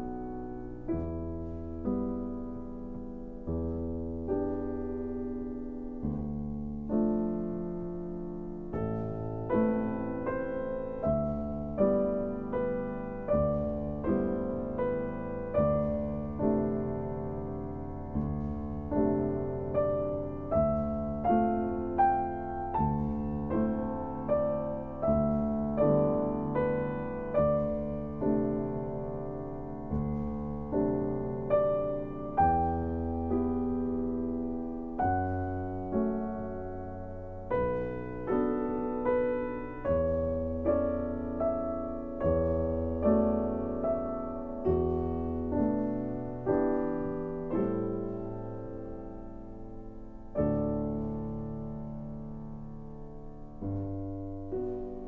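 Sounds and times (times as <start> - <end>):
slow piano music: 0.0 - 55.0.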